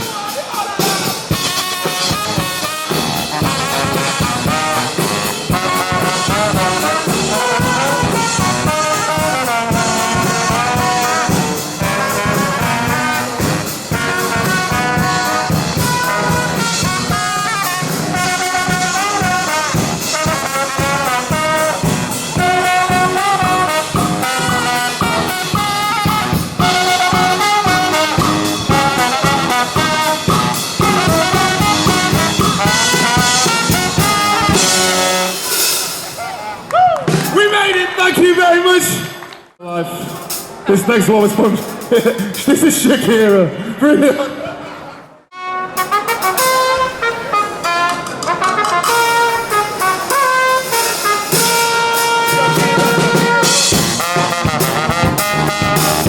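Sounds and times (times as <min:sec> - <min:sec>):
steady drum beat: 0:00.0 - 0:36.3, 0:41.2 - 0:43.4, 0:45.8 - 0:56.0
brass band playing: 0:00.0 - 0:38.9, 0:39.6 - 0:43.5, 0:45.3 - 0:56.0.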